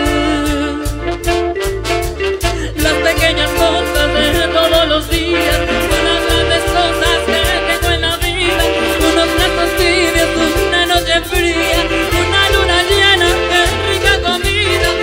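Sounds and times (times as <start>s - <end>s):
bass line: 0.0s - 15.0s
congas: 0.0s - 15.0s
trumpets: 0.0s - 15.0s.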